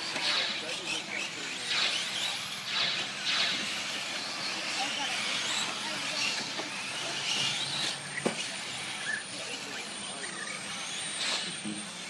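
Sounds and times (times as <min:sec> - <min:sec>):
electric toy truck motors whining: 0:00.0 - 0:12.0.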